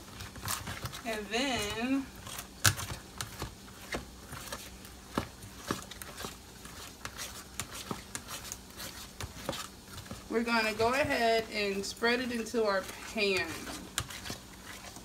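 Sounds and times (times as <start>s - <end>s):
faint steady hum: 0.0s - 15.0s
spoon stirring batter in a tub: 0.0s - 15.0s.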